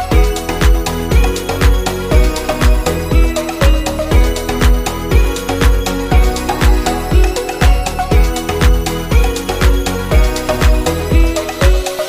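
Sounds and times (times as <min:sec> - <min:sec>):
deep kick drum: 0:00.0 - 0:12.0
electronic dance music: 0:00.0 - 0:12.0
held synth notes: 0:00.0 - 0:12.0.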